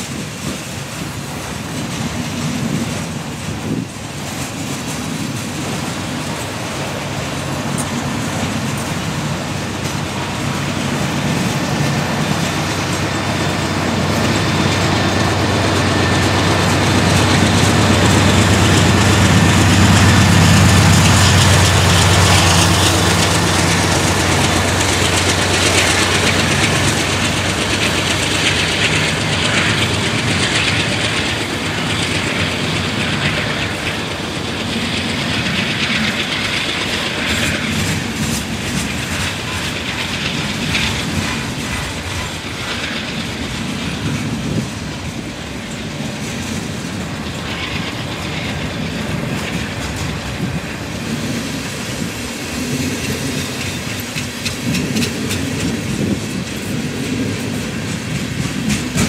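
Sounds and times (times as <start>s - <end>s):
diesel locomotive engine drone: 0.0s - 59.0s
train wheels clattering over rails: 0.0s - 59.0s.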